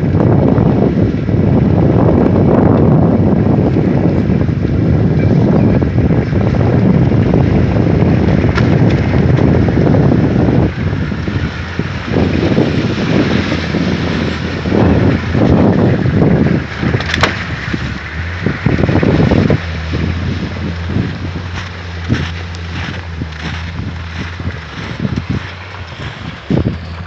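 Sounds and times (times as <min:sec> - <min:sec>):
truck engine running: 0:00.0 - 0:27.0
wind buffeting microphone: 0:00.0 - 0:27.0.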